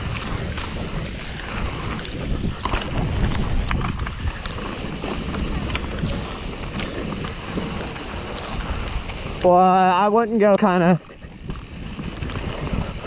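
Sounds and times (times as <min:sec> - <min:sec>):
bike rattling and clicking: 0:00.0 - 0:13.0
wind rushing over microphone: 0:00.0 - 0:13.0.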